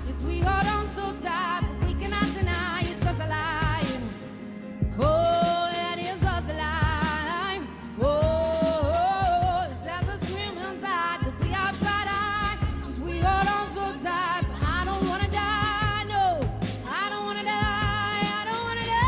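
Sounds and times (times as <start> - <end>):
woman singing with vibrato: 0.0 - 19.0.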